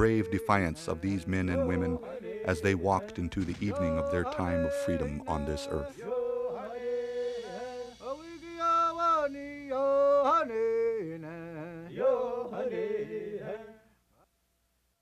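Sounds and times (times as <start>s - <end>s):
man singing wordless chant: 0.0s - 13.8s.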